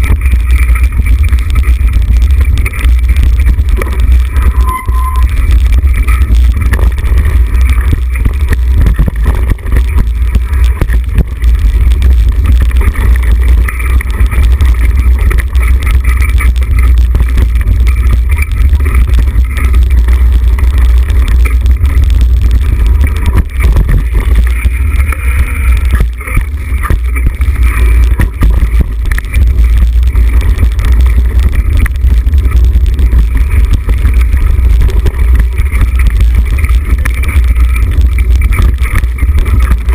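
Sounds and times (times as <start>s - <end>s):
bike rattles and knocks: 0.0s - 39.9s
bike tyres on dirt: 0.0s - 39.9s
wind buffeting microphone: 0.0s - 39.9s.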